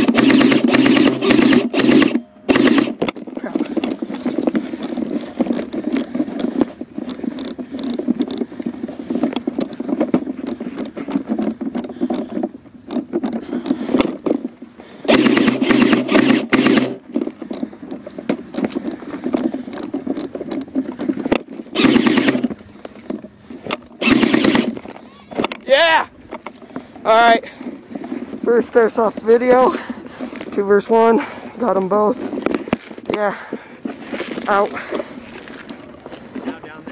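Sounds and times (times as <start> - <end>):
rustling through dry grass: 0.0 - 25.3, 25.9 - 36.9.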